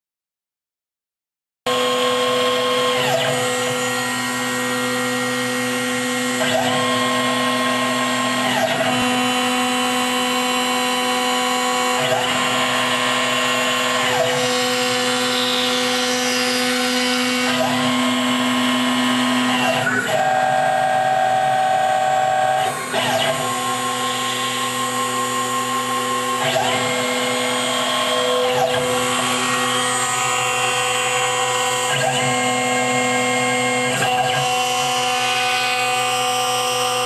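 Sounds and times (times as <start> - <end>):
motor tones gliding up and down: 1.7 - 37.0
router spindle whine: 1.7 - 37.0.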